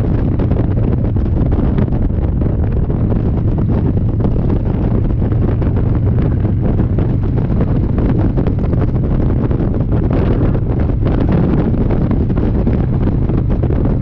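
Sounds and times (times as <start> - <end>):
motorcycle engine drone: 0.0 - 14.0
wind on microphone: 0.0 - 14.0.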